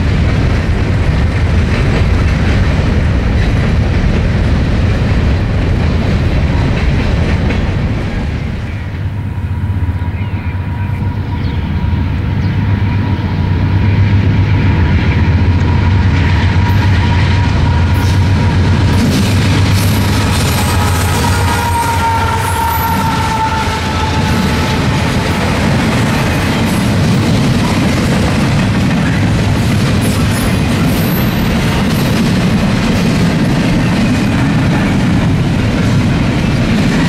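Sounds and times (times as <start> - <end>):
locomotive low drone: 0.0 - 37.0
train wheels rumbling and clattering: 0.0 - 37.0.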